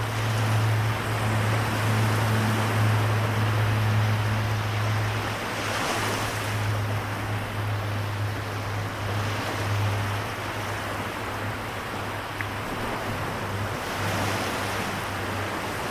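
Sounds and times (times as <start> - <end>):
small waves washing on shore: 0.0 - 15.9.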